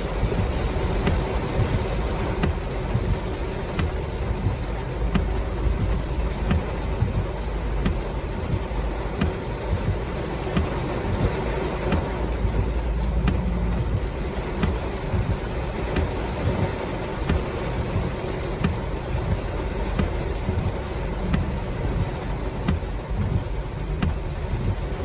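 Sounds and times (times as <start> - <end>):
low rumble: 0.0 - 25.0
rain hissing on car: 0.0 - 25.0.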